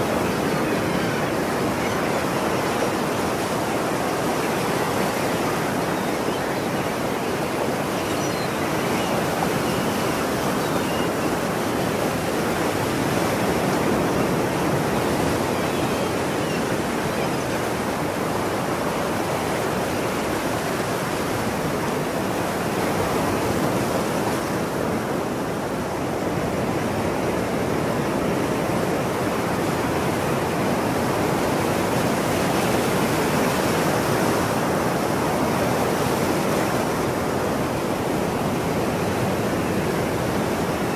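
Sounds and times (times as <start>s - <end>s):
ocean surf breaking on shore: 0.0s - 40.9s.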